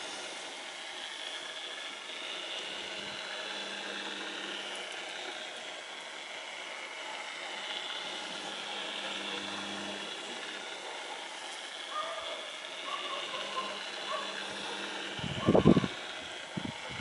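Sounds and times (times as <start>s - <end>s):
small motor whirring: 0.0s - 17.0s.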